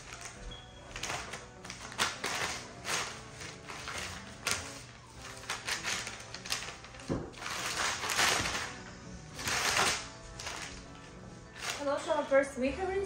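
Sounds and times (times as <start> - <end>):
fabric rustling and scratching: 0.0 - 8.8, 9.4 - 12.0
quiet background music: 0.0 - 13.0.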